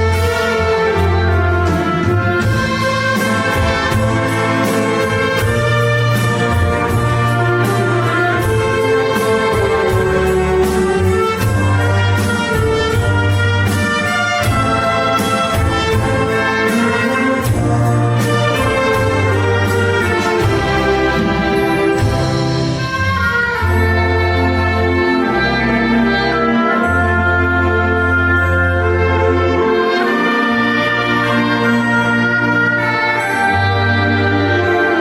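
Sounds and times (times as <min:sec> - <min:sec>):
trumpets and trombones: 0:00.0 - 0:35.0
wind orchestra playing pop songs: 0:00.0 - 0:35.0.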